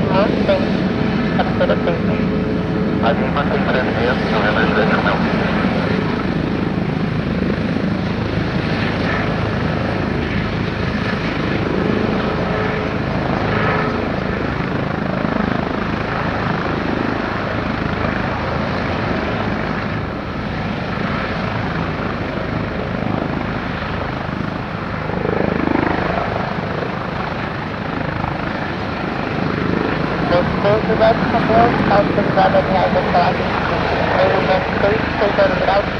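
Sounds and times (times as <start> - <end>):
helicopter engines and rotors running: 0.0 - 35.9.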